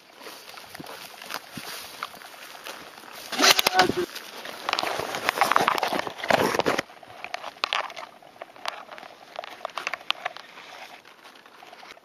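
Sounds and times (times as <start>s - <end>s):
sharp clicks and crackles: 0.8s - 12.0s.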